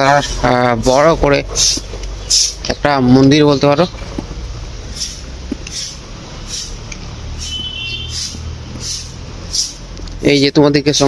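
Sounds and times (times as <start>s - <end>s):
broom sweeping paved ground: 0.0s - 2.8s, 4.8s - 11.0s.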